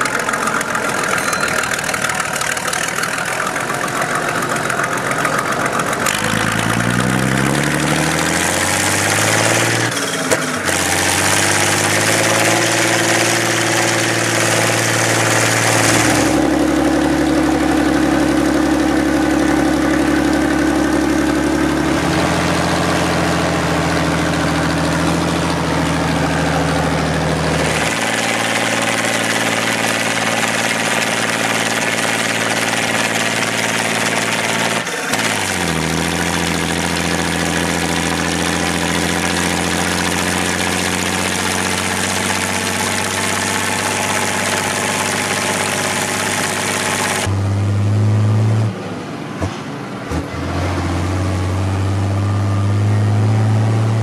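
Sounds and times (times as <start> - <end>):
engine knock: 0.0 - 47.3
tractor diesel engine running: 0.0 - 54.0.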